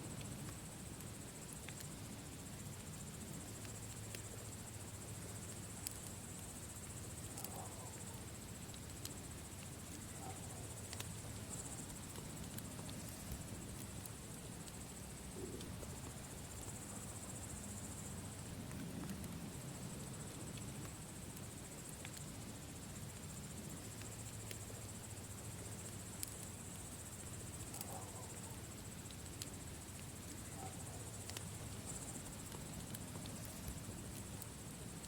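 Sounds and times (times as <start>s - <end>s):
campfire crackling: 0.0s - 35.0s
crickets chirring: 0.0s - 35.0s.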